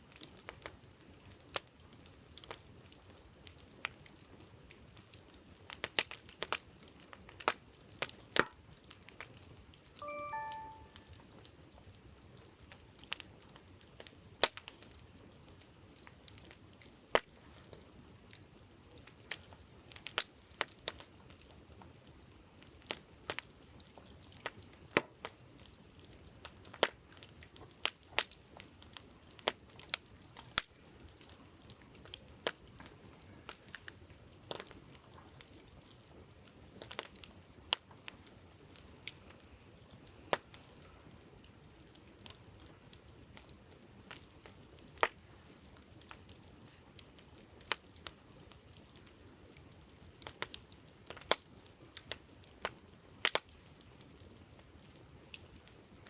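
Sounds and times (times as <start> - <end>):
campfire crackling: 0.0 - 10.8, 11.4 - 56.0.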